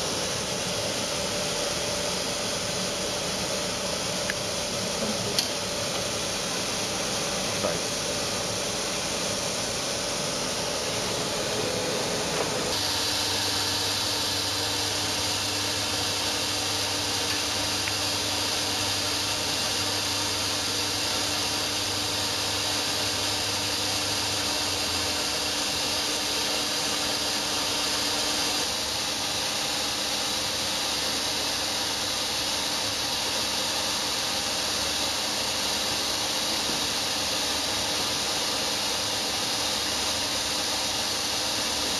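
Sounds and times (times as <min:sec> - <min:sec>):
machine hiss: 0:00.0 - 0:41.9.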